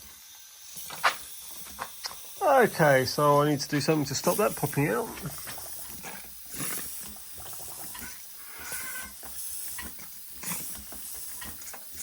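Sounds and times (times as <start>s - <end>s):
steam locomotive hissing puffs: 0.0s - 12.0s.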